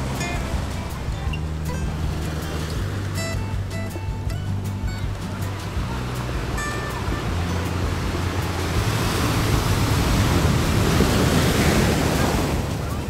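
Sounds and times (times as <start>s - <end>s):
ocean surf rushing onto beach: 0.0s - 13.0s.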